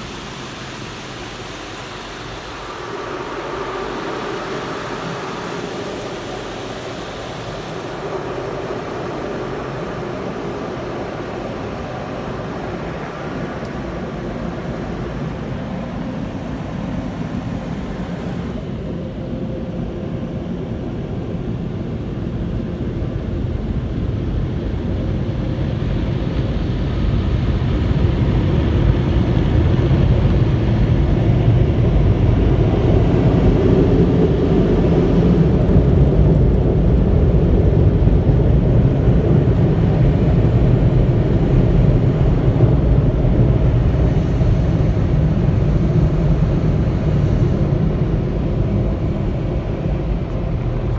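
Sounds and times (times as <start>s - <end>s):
car wash equipment roaring: 0.0s - 22.8s, 23.4s - 50.9s.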